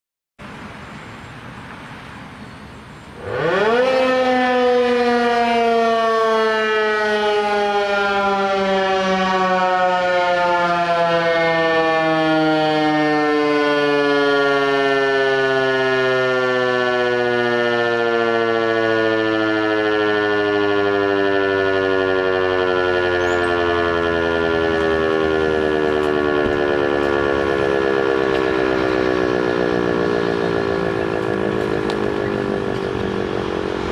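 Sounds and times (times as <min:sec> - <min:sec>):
emergency alert siren: 0:03.2 - 0:33.9.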